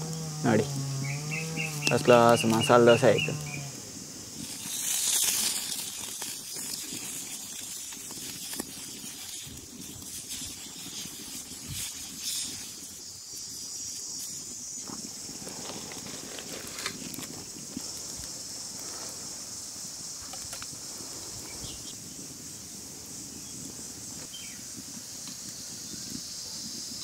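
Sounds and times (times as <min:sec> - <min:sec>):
pancake sizzling on hot griddle: 0:00.0 - 0:27.0.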